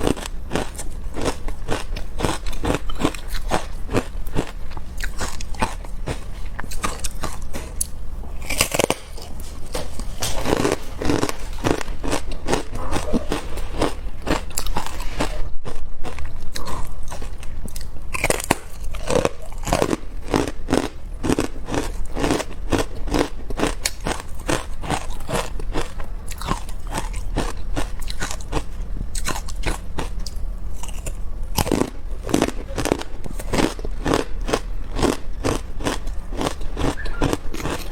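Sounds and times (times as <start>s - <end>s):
ice being chewed: 0.0s - 37.9s.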